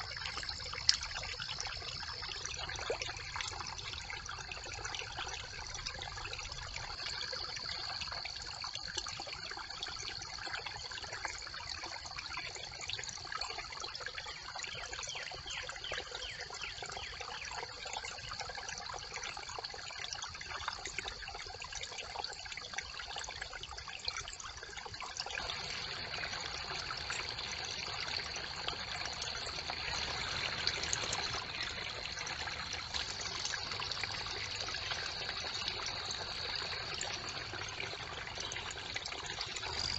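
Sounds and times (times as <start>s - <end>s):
brook water trickling and splashing: 0.0s - 39.9s.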